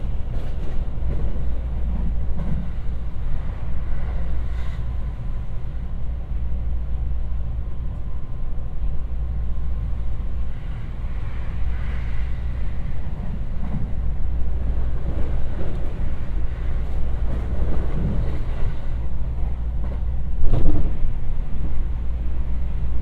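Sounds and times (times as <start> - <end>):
electric train rumbling: 0.0 - 23.0
passing train whoosh: 0.0 - 23.0.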